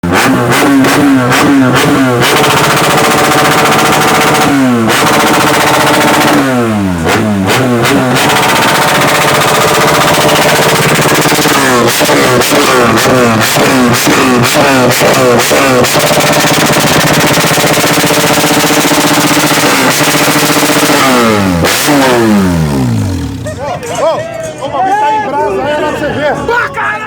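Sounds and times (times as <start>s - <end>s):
motorcycle engine revving hard: 0.0s - 23.4s.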